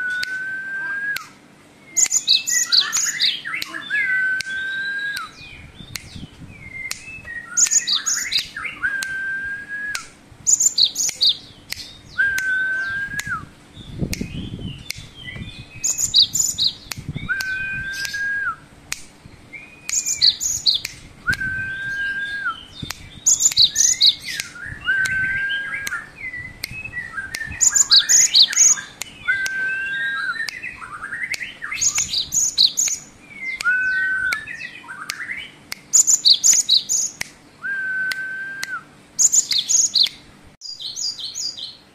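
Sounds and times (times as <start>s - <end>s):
bird singing: 0.0s - 18.6s, 19.2s - 41.9s.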